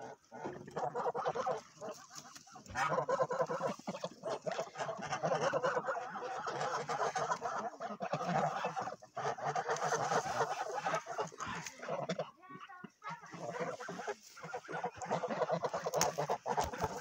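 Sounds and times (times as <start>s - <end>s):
geese calling: 0.0s - 17.0s.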